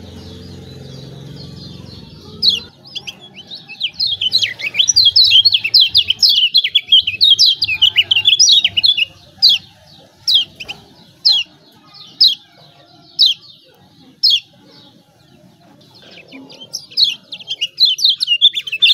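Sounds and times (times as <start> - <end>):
bird calling: 0.0 - 18.9
bird chattering calls: 0.0 - 18.9.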